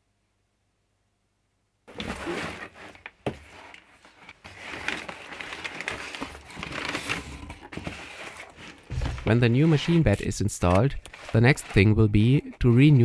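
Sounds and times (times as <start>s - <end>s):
paper and cardboard rustling: 1.9s - 13.0s.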